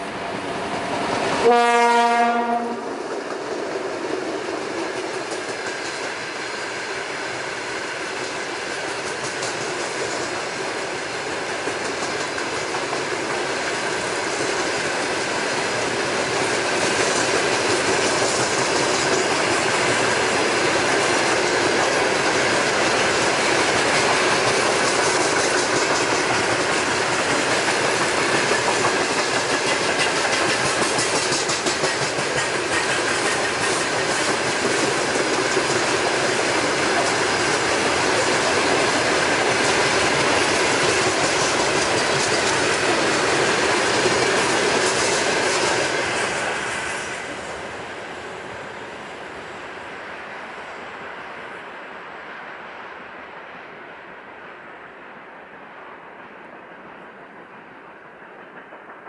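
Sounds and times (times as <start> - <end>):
freight train wheels clickety-clack: 0.0 - 51.3, 52.2 - 59.0.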